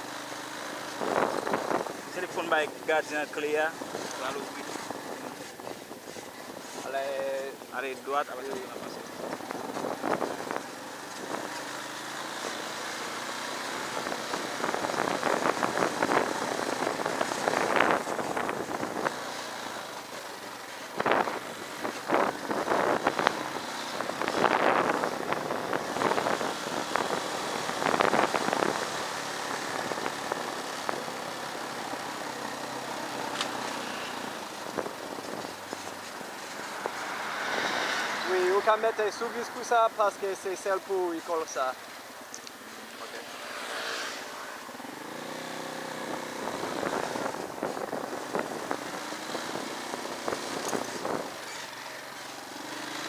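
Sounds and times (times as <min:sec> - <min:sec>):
motorcycle engine running: 0:00.0 - 0:07.4, 0:08.4 - 0:38.2, 0:41.8 - 0:53.0.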